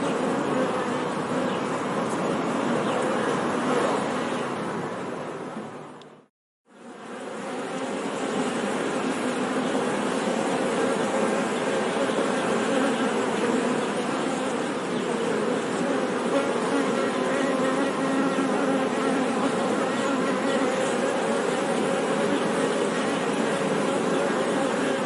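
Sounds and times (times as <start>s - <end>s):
honey bees buzzing: 0.0s - 5.2s, 6.7s - 25.0s.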